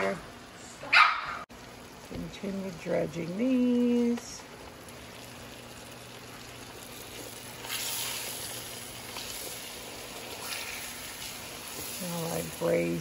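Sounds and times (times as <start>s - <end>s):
meat sizzling in oil: 1.5s - 13.0s.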